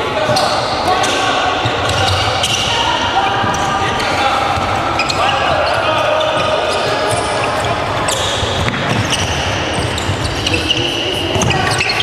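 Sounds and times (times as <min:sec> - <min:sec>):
players running in a hall: 0:00.0 - 0:12.0.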